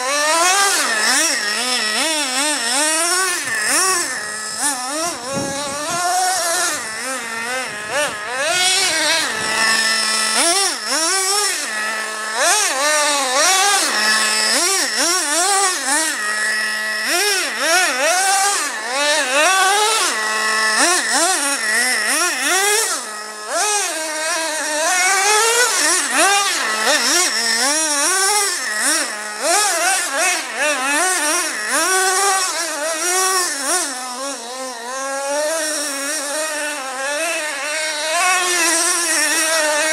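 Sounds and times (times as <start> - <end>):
nitro engine revving: 0.0 - 39.9.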